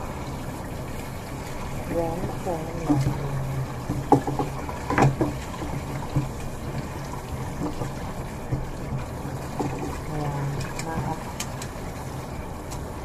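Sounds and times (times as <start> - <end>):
tap running: 0.0 - 13.0.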